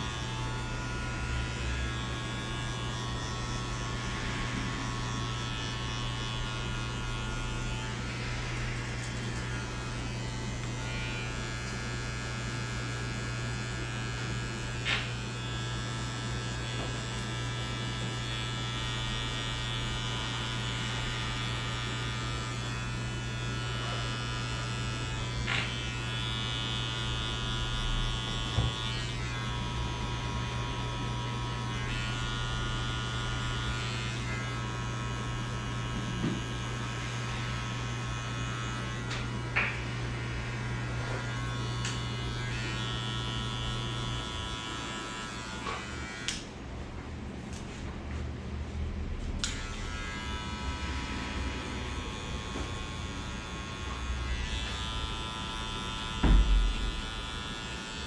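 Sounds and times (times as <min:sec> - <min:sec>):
electric hair clippers running: 0:00.0 - 0:48.2, 0:48.8 - 0:58.0.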